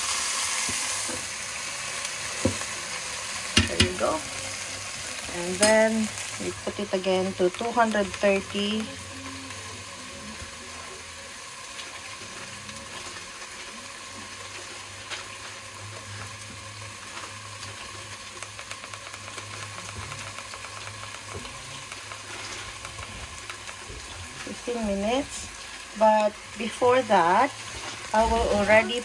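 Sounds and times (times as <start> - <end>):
food sizzling in electric pan: 0.0 - 29.0.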